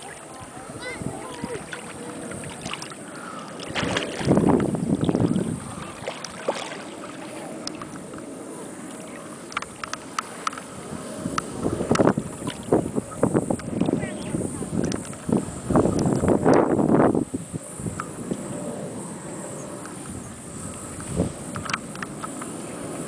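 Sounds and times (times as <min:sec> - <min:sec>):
sea water splashing and lapping: 0:00.0 - 0:23.0.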